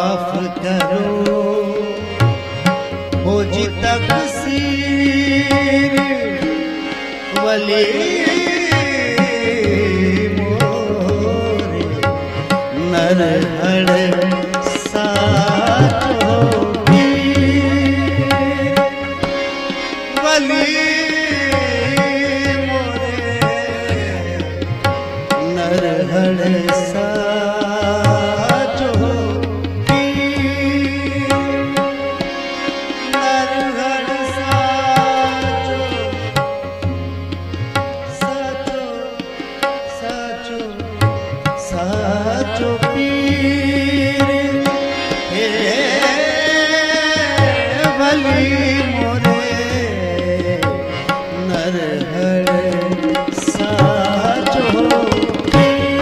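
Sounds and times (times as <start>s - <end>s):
held accompaniment tones: 0.0s - 56.0s
tabla drumming: 0.0s - 56.0s.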